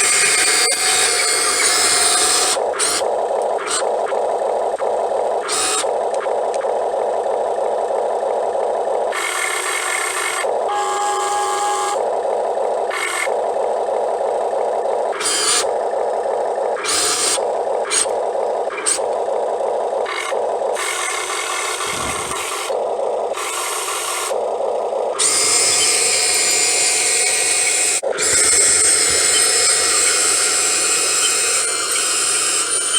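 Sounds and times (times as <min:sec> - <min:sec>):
electric motors whirring: 0:00.0 - 0:32.9
gears grinding: 0:00.0 - 0:32.9.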